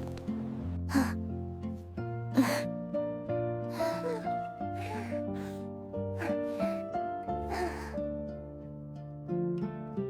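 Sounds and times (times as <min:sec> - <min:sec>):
soft plucked-string music: 0:00.0 - 0:10.0.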